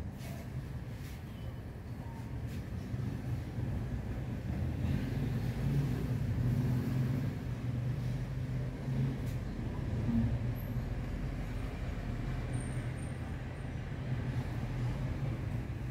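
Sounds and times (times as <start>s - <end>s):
engine rumbling: 2.6s - 15.9s.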